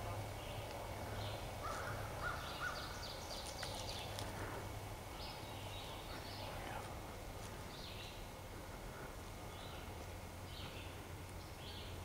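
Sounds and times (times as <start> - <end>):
faint low hum: 0.0 - 12.0
songbirds singing: 0.0 - 12.0.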